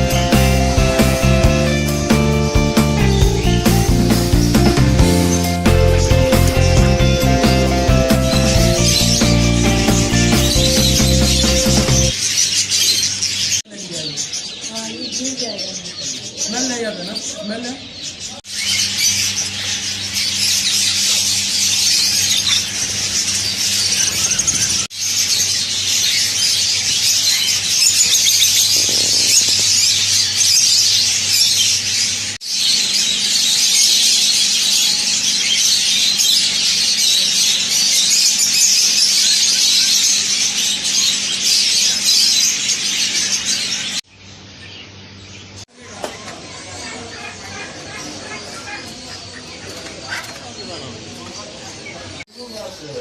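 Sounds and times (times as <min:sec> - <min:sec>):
caged birds chattering: 0:00.0 - 0:53.0.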